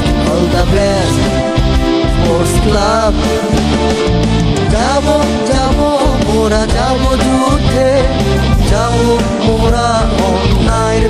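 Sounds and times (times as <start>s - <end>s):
loud music with sliding melody: 0.0s - 11.0s.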